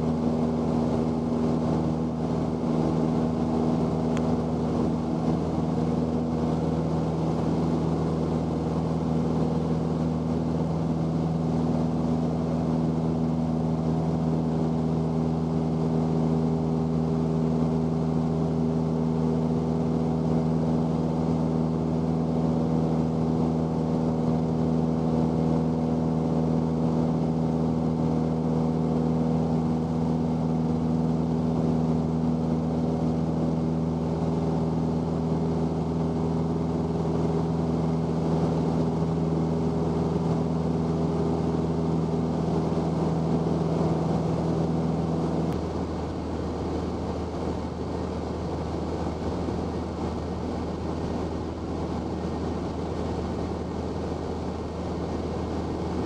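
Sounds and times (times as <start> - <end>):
small plane engine drone in cabin: 0.0 - 56.0.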